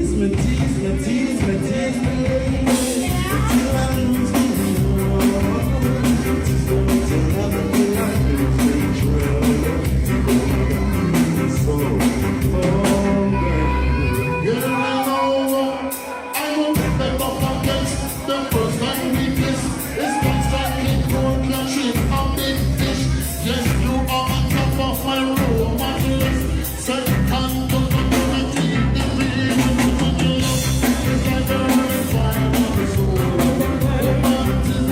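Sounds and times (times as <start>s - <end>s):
live reggae band: 0.0s - 34.9s
person singing: 0.0s - 34.9s.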